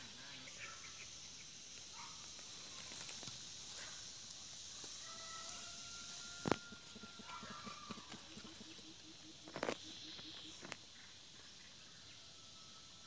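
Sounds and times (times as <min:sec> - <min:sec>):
faint chirps: 0:00.0 - 0:13.0
steady high hiss: 0:00.0 - 0:13.0.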